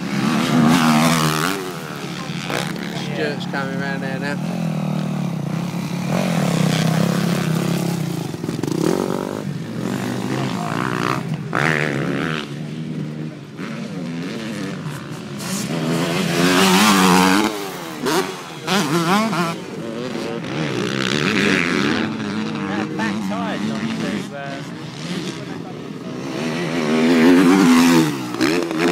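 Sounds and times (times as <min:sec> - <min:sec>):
motocross bike engines revving: 0:00.0 - 0:28.9.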